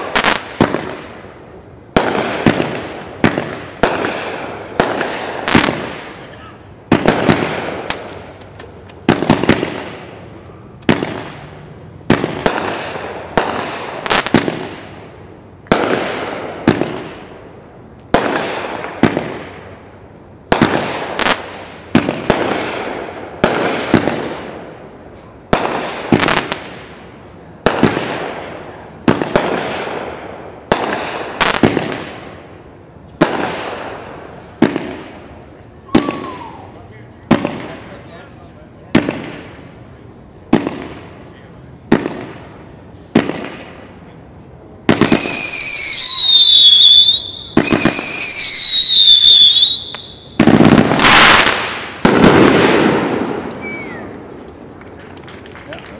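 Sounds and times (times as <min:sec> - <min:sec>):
crackle of bursting stars: 0:00.0 - 0:44.9, 0:49.6 - 0:55.9
fireworks bangs: 0:00.0 - 0:55.9.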